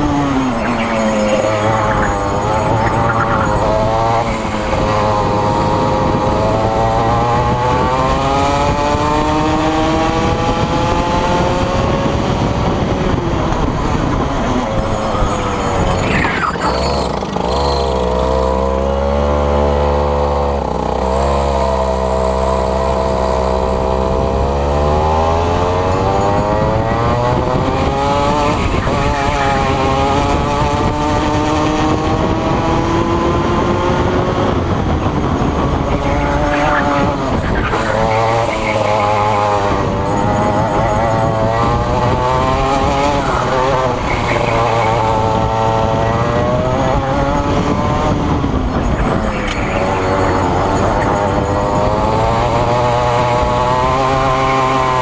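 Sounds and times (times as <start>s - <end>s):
kart engine at racing speed: 0.0s - 55.0s.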